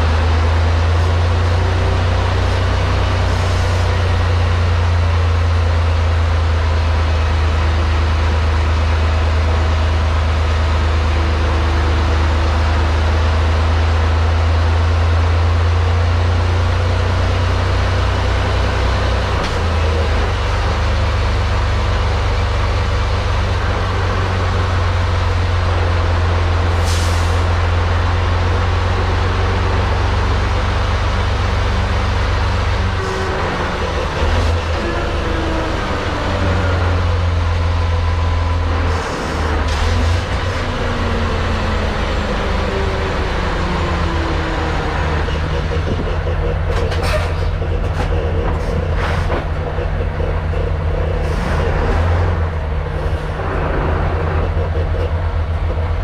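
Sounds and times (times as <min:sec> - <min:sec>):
diesel truck engine drone: 0:00.0 - 0:56.0
road rumble: 0:00.0 - 0:56.0.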